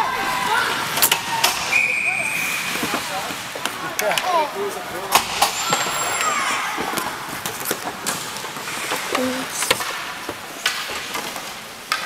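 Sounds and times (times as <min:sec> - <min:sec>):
hockey sticks and puck clacking: 0:00.6 - 0:12.0.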